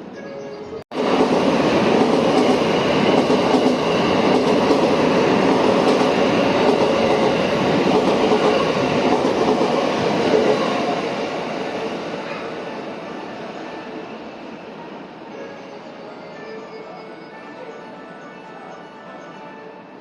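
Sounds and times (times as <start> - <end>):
electric train passing: 0.1 - 20.0.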